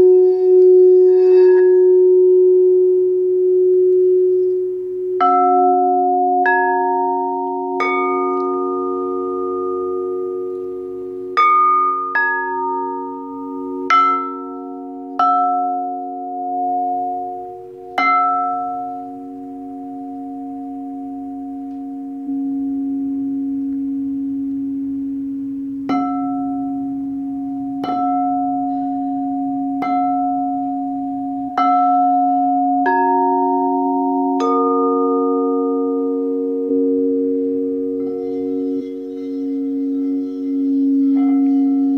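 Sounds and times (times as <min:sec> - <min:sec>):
crystal singing bowls ringing: 0:00.0 - 0:41.9
singing bowl strikes: 0:00.0 - 0:41.9.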